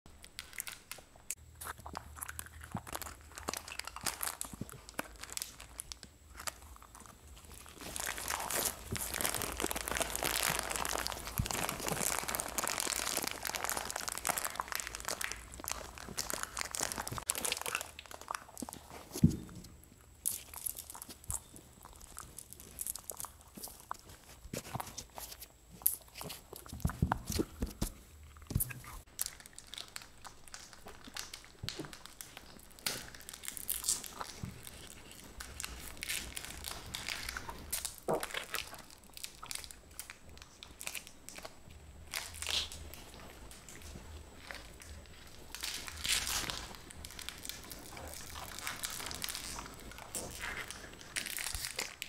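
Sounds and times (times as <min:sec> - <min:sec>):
monkey crunching hard candies: 0:00.2 - 0:52.0
plastic wrapper crinkling: 0:00.2 - 0:52.0.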